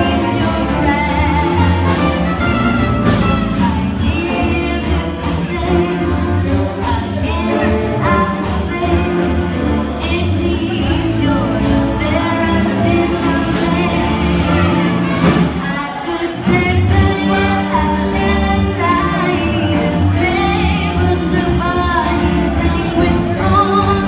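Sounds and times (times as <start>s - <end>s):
big band swing music: 0.0s - 24.0s
steady drum beat: 0.0s - 24.0s.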